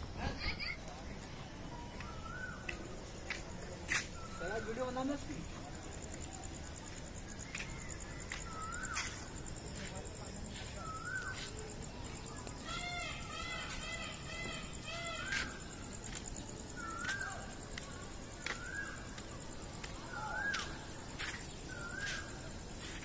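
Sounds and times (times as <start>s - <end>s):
birds calling: 1.7s - 23.0s.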